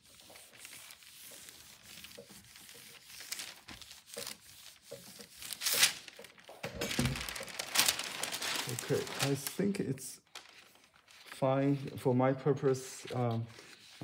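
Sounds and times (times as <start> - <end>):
paper sheet crinkling: 0.0 - 14.0.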